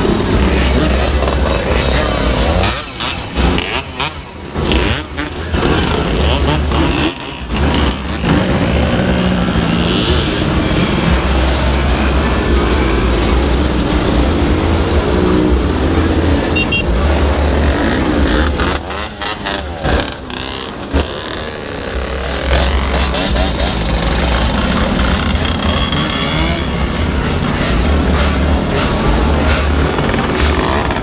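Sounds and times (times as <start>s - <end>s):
two-stroke motorcycles passing: 0.0s - 31.0s.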